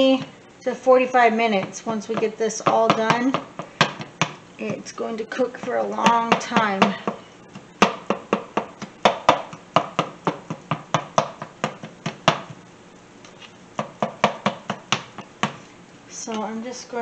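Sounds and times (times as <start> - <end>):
plastic spatula chopping meat in pan: 1.1 - 12.6, 13.3 - 15.7.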